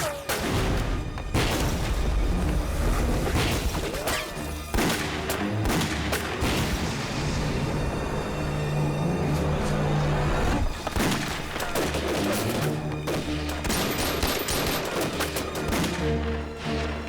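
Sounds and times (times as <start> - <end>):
background music: 0.0 - 17.0
gunfire and explosions: 0.0 - 17.0.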